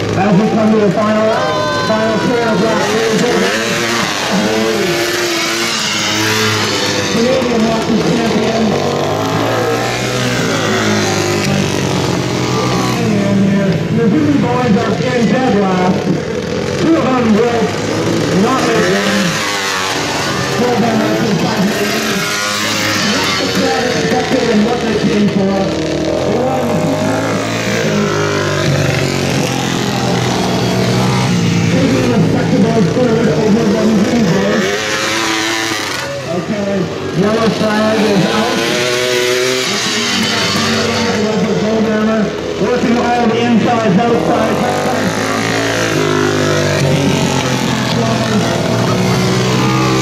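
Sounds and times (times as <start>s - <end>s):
racing motorcycle engines: 0.0s - 50.0s.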